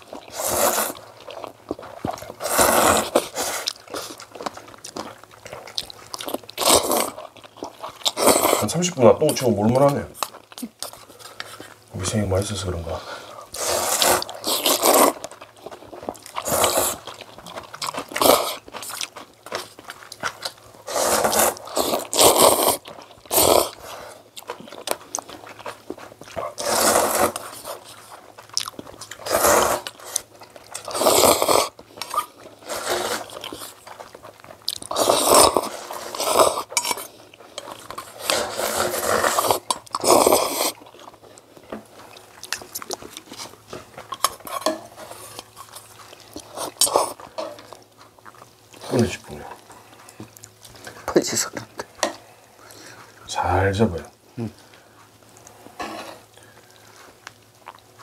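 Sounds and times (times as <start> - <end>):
person slurping and chewing: 0.0 - 11.9, 12.6 - 53.3.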